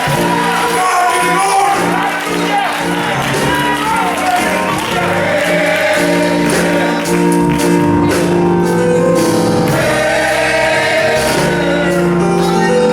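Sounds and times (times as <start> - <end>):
instrumental accompaniment: 0.0 - 12.9
male chorus singing gospel: 0.0 - 12.9.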